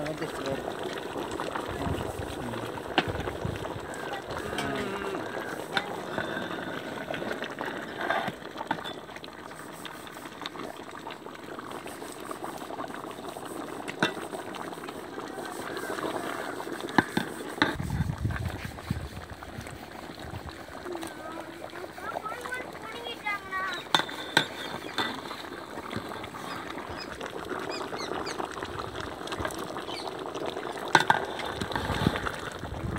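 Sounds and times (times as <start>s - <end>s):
gravy bubbling in a pot: 0.0s - 32.9s.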